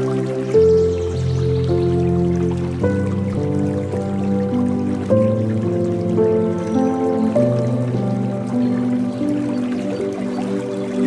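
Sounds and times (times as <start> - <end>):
calm new-age music: 0.0 - 11.0
faint running and dripping water: 0.0 - 11.0.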